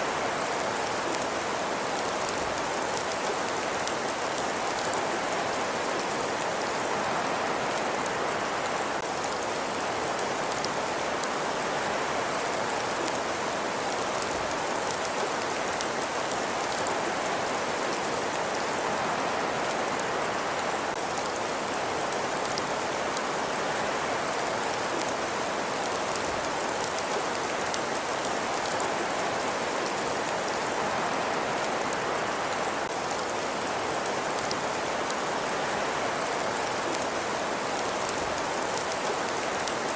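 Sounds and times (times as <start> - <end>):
rain-like hiss: 0.0 - 39.9.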